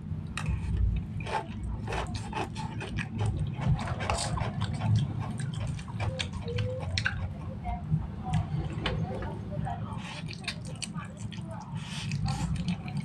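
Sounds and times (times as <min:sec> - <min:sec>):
chewing noodles with mouth clicks: 0:00.3 - 0:08.8, 0:10.0 - 0:13.0.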